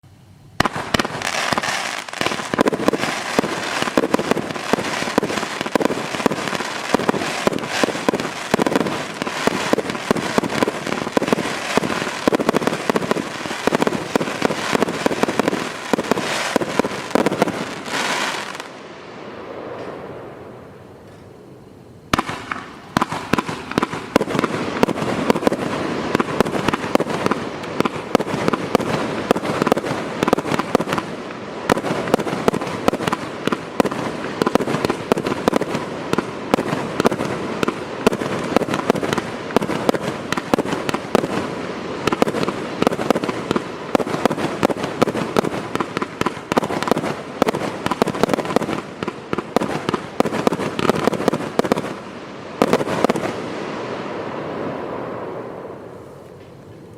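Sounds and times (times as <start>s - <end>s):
firework rapid bangs: 0.6s - 18.7s, 22.1s - 52.0s, 52.6s - 53.6s.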